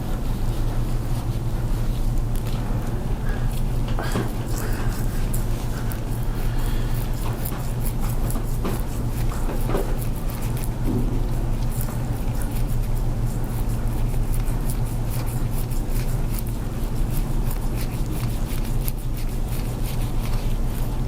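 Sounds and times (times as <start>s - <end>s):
steady low hum: 0.0s - 21.0s
tool scraping over skin: 3.4s - 21.0s.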